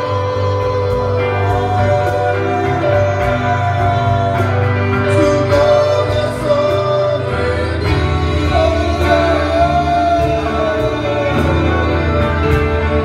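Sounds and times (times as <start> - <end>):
band with bass and cymbals: 0.0 - 13.0
voices singing long notes: 0.0 - 13.0.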